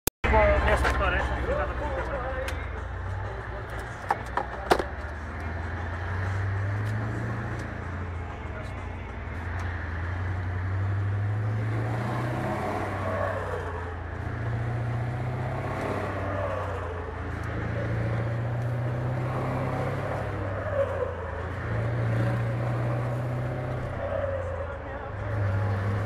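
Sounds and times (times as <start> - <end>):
truck diesel engine from cab: 0.2 - 26.0.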